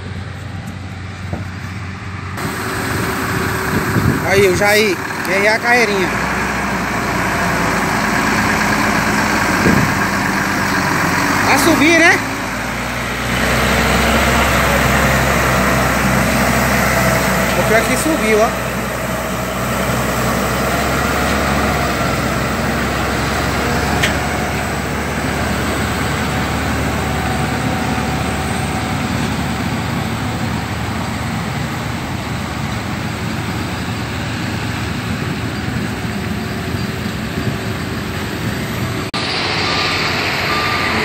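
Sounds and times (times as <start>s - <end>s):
diesel truck engine pulling: 0.0s - 41.0s.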